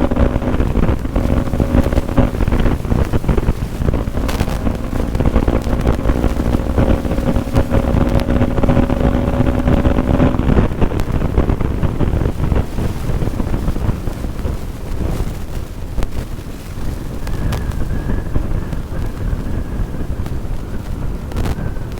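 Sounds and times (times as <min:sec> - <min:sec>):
motorcycle engine at high speed: 0:00.0 - 0:21.9
road and wind noise: 0:00.0 - 0:21.9
wind buffeting microphone: 0:00.0 - 0:21.9.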